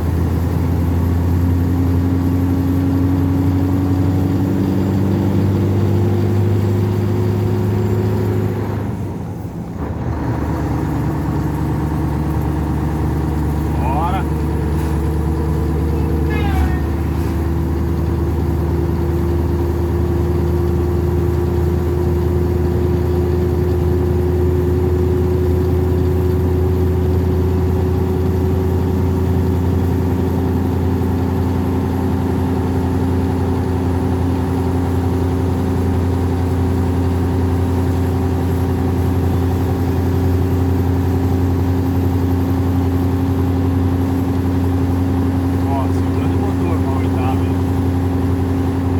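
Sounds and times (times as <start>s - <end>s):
diesel engine running under load: 0.0s - 48.9s.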